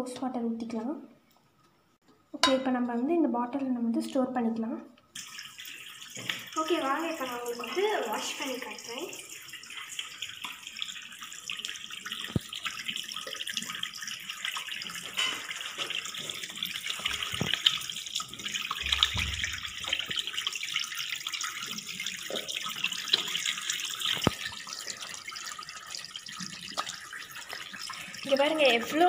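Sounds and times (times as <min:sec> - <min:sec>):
hands washing under water: 0:05.2 - 0:29.0
tap water running into basin: 0:05.2 - 0:29.0.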